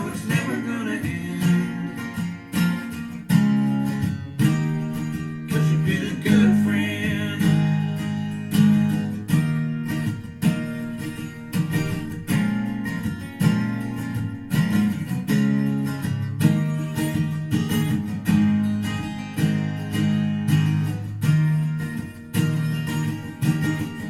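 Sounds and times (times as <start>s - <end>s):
strummed acoustic guitar music: 0.0s - 24.0s.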